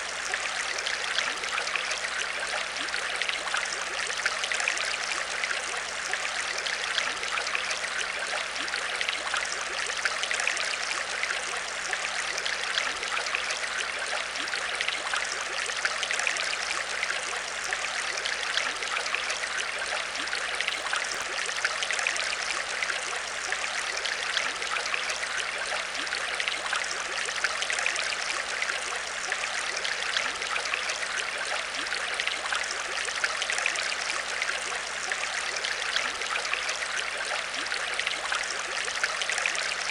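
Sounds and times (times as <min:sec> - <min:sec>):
aquarium water trickling and bubbling: 0:00.0 - 0:39.9
faint steady hum: 0:00.0 - 0:39.9.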